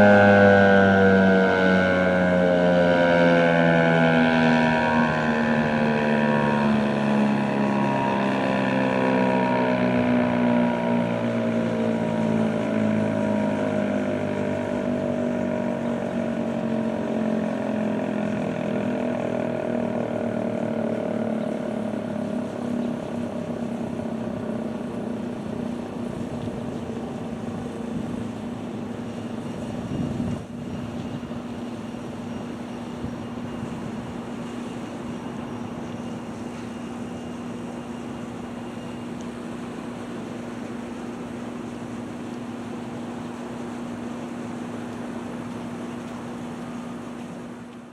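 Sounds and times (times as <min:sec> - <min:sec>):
warning siren winding down: 0:00.0 - 0:47.9
steady low hum: 0:03.7 - 0:47.9.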